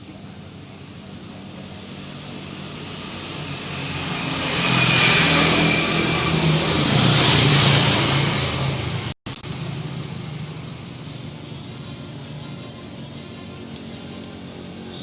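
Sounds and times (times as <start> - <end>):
vehicle engine passing by: 1.7 - 15.0.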